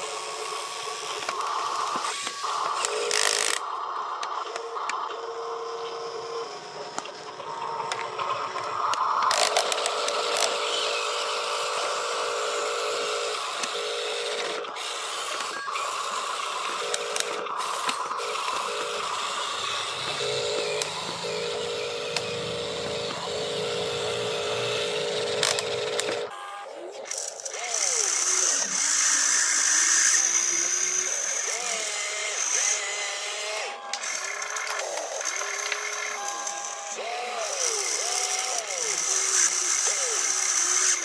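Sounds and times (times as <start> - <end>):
toy truck electric motor whining: 0.0 - 41.0.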